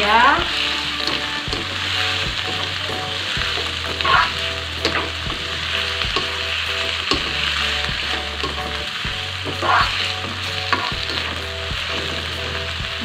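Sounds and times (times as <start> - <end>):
food sizzling in hot oil: 0.0 - 13.0
spatula scraping wok: 0.0 - 13.0.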